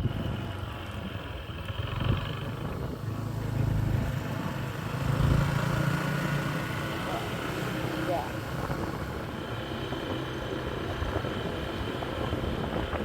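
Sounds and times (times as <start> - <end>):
motorbike engine rumbling: 0.0 - 13.0.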